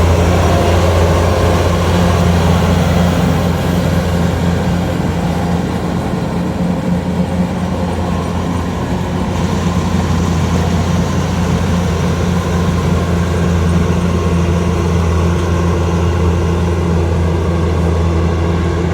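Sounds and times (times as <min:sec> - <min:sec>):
combine harvester diesel engine drone: 0:00.0 - 0:18.9.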